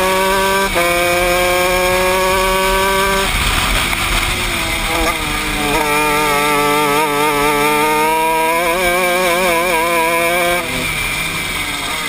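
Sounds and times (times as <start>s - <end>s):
kart engine at high revs: 0.0s - 12.0s.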